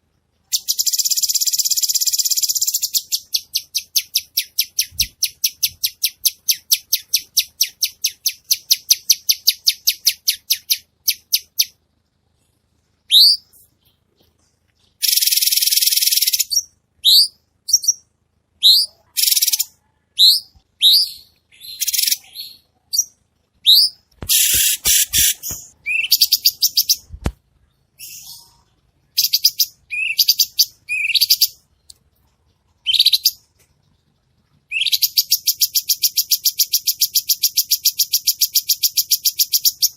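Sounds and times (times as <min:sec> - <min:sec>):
songbird singing whistles and trills: 0:00.5 - 0:11.8, 0:13.1 - 0:14.0, 0:14.9 - 0:27.1, 0:29.2 - 0:31.6, 0:32.8 - 0:33.4, 0:34.7 - 0:39.9.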